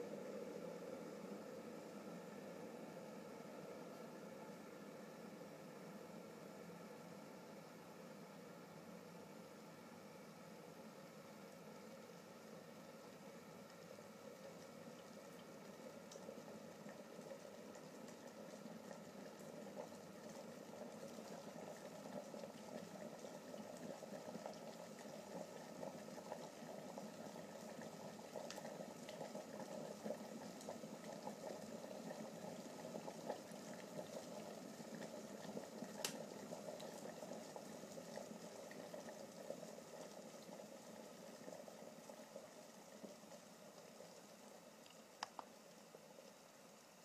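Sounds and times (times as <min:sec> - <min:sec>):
water boiling: 0:00.0 - 0:47.0.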